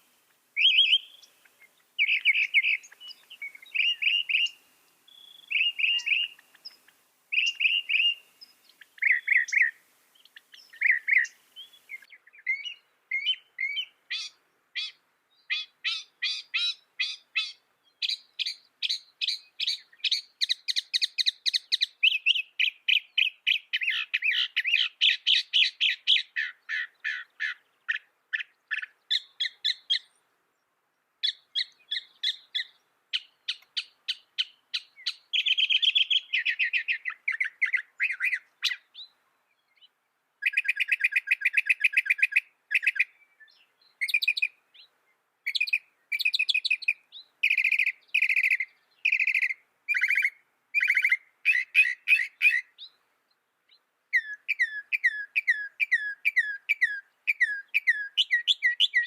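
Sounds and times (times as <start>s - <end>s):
mockingbird singing: 0.6s - 30.2s, 31.2s - 44.9s, 45.5s - 53.0s, 53.7s - 59.0s.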